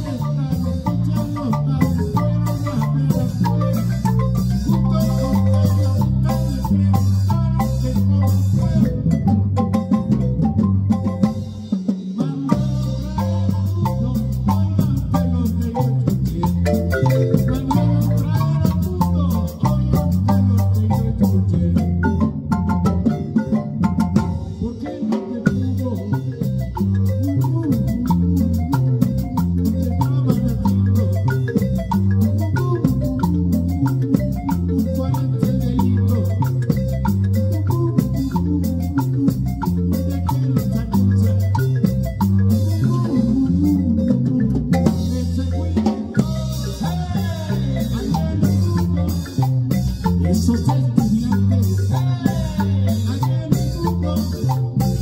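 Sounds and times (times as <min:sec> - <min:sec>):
electric bass line: 0:00.0 - 0:11.7, 0:12.4 - 0:24.8, 0:25.4 - 0:55.0
drums keeping a steady beat: 0:00.0 - 0:55.0
marimba played with mallets: 0:00.0 - 0:55.0.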